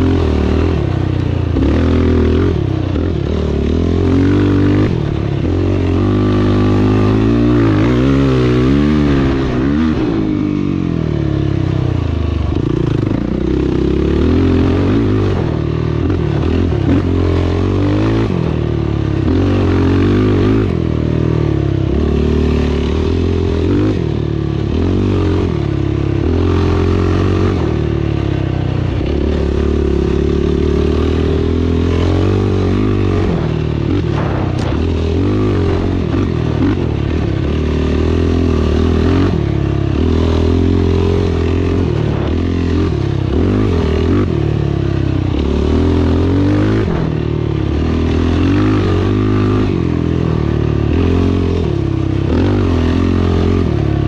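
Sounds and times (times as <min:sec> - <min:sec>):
off-road engine revving: 0:00.0 - 0:54.0.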